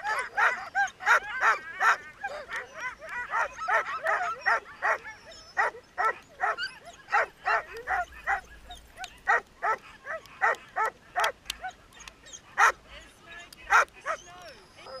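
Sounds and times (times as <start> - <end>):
sled dogs barking and yipping: 0.0 - 15.0.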